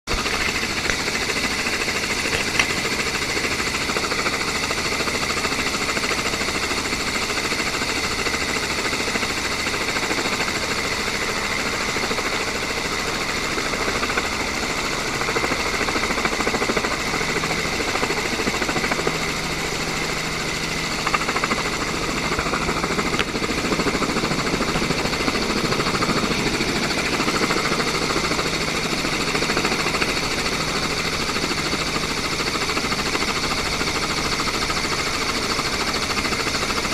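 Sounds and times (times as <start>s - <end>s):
engine with high whine: 0.1s - 36.9s.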